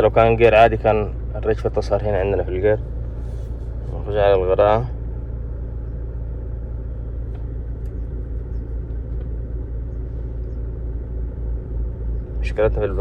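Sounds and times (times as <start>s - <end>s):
diesel engine idling with misfire: 0.0s - 13.0s.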